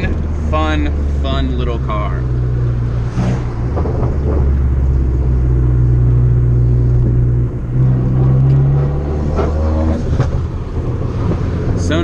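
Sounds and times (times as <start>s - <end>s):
car engine and exhaust under load: 0.0s - 12.0s.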